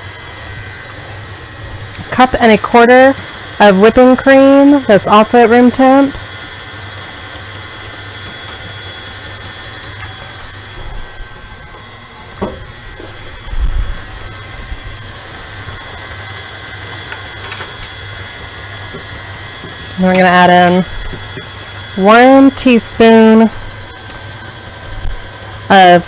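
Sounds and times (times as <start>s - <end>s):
stand mixer motor whining: 0.0s - 26.0s.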